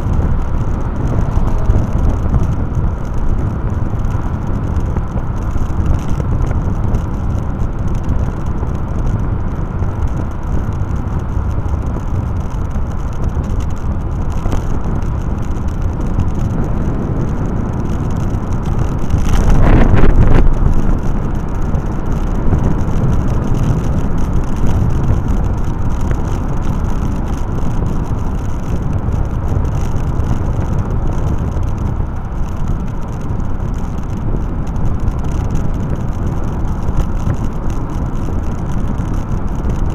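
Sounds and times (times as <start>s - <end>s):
vehicle wind and road noise: 0.0s - 39.9s.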